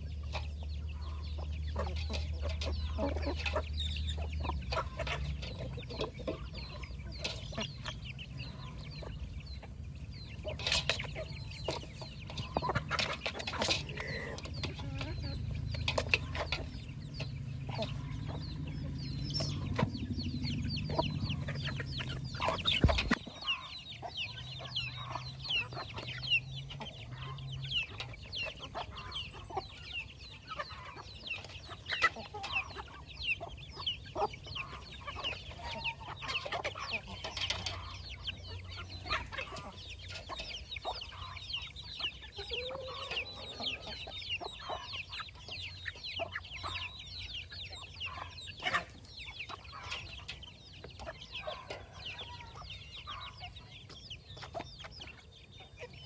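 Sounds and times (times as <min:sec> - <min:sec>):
chicks peeping: 0:00.0 - 0:56.0
hens clucking: 0:00.0 - 0:56.0.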